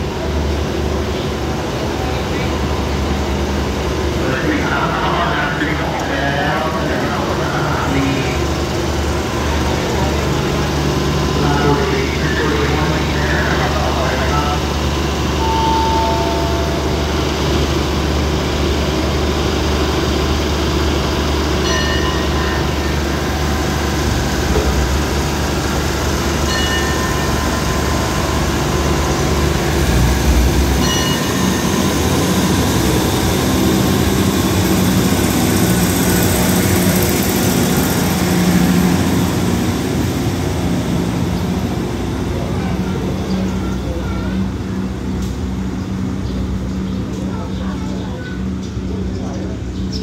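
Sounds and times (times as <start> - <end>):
carriages rolling on track: 0.0 - 50.0
diesel train engines running: 0.0 - 50.0.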